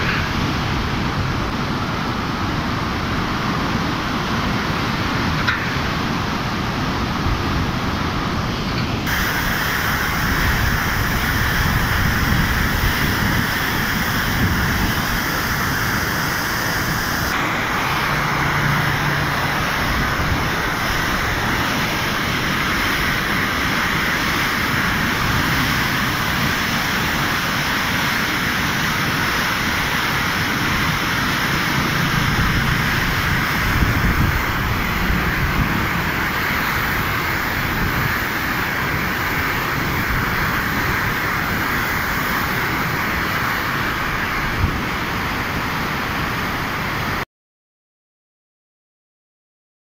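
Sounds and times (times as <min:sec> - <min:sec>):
floodwater rushing through gates: 0:00.0 - 0:47.2.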